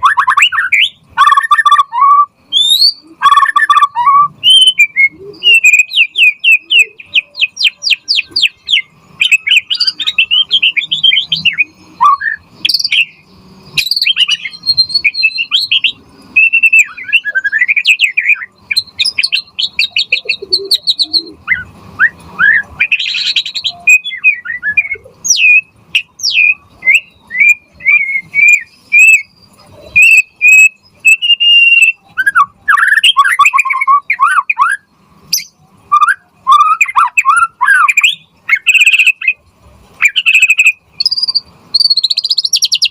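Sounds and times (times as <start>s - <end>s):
songbird singing trills and whistles: 0.0s - 42.9s.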